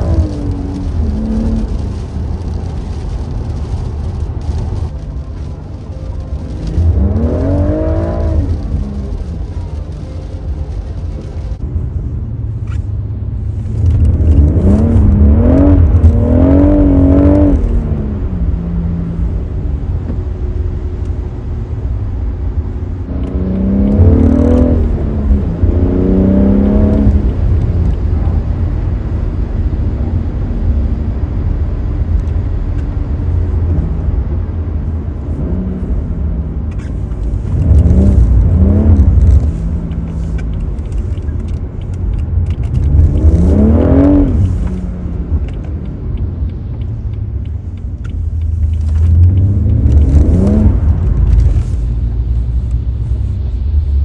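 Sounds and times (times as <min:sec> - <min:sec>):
car engine revving: 0:00.0 - 0:54.0
exhaust crackles: 0:00.0 - 0:54.0
low engine rumble: 0:00.0 - 0:54.0.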